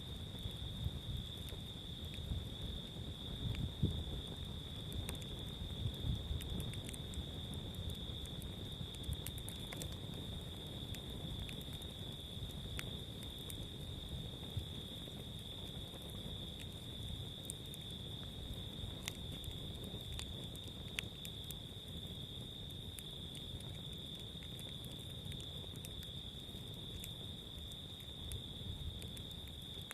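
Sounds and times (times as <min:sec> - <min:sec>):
campfire crackling and popping: 0:00.0 - 0:29.9
insect trill: 0:00.0 - 0:29.9.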